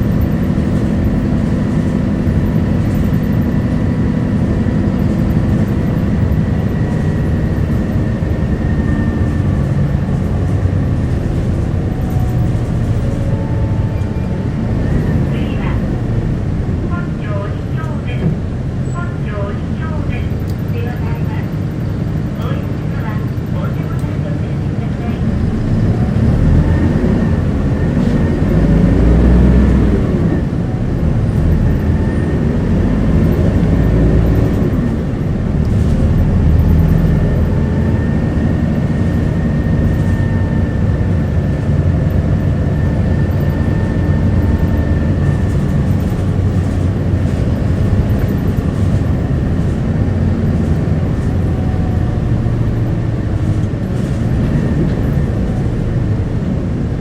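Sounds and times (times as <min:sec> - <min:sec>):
bus engine humming: 0:00.0 - 0:57.0.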